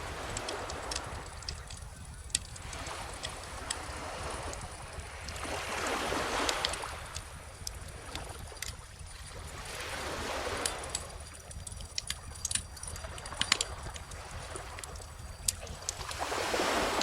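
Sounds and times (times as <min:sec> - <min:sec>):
calm ocean waves: 0:00.0 - 0:17.0.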